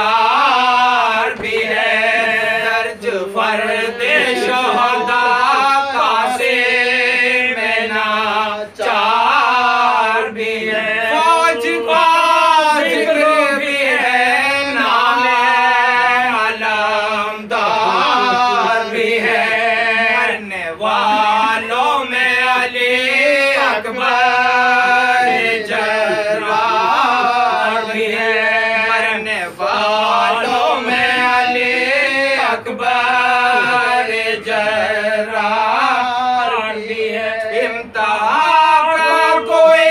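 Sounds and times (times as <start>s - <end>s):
men chanting unaccompanied: 0.0s - 39.9s.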